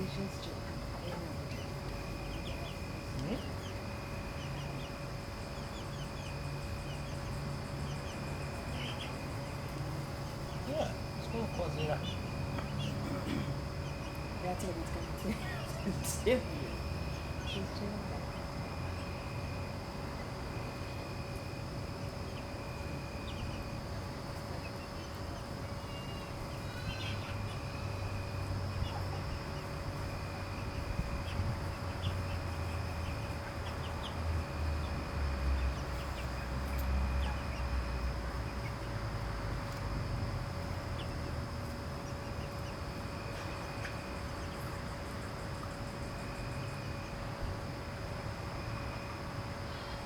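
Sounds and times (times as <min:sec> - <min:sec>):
high insect drone: 0:00.0 - 0:50.0.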